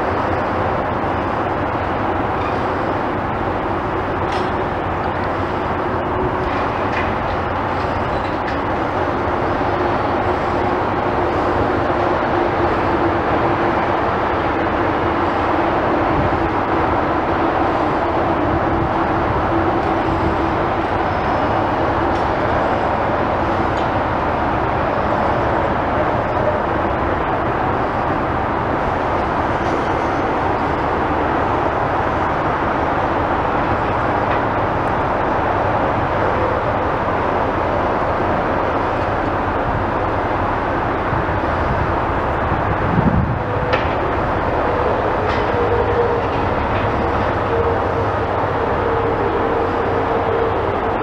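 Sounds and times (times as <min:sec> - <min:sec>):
loud rumbling noise: 0:00.0 - 0:51.0.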